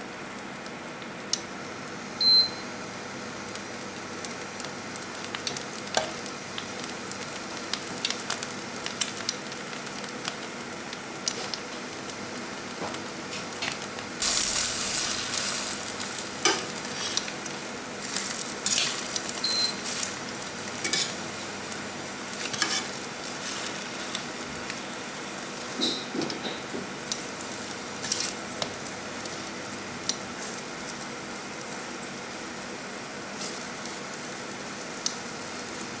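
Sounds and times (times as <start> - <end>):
food sizzling in a pan: 1.7 - 36.0.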